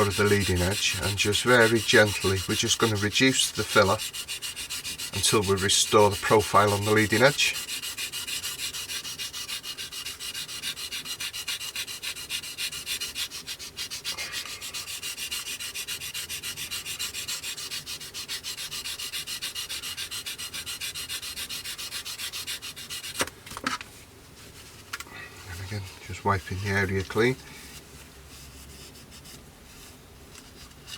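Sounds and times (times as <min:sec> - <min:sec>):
sanding sponge scratching: 0:00.0 - 0:23.3, 0:25.5 - 0:27.4.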